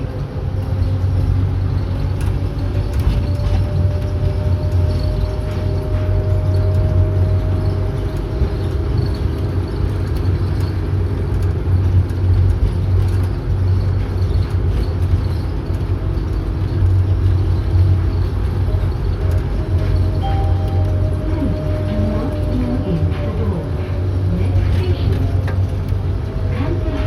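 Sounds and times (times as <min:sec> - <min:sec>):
train hum: 0:00.0 - 0:27.0
train rumble: 0:00.0 - 0:27.0.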